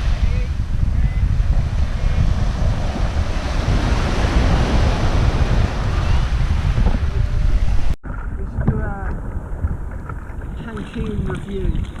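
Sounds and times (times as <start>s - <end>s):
sea waves washing in: 0.0s - 12.0s
wind buffeting microphone: 0.0s - 12.0s.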